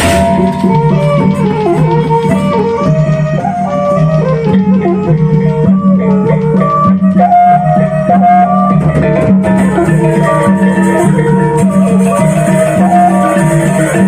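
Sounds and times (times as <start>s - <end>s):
bamboo flute melody: 0.0s - 14.0s
drums: 0.0s - 14.0s
gongs: 0.0s - 14.0s.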